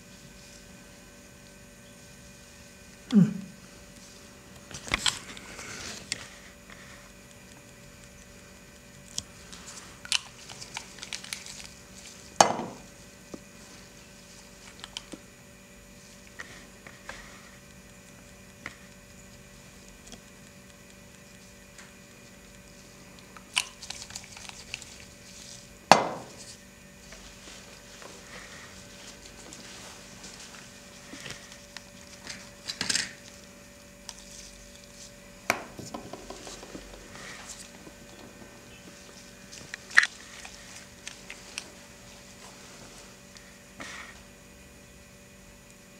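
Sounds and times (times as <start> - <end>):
low electrical hum: 0.0 - 45.9.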